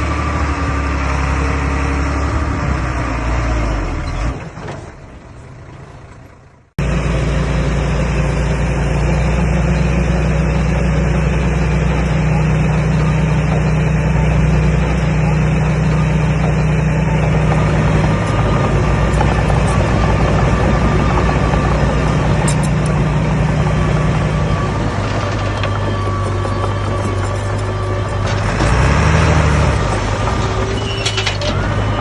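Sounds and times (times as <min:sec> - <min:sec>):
bulldozer diesel engine: 0:00.0 - 0:32.0.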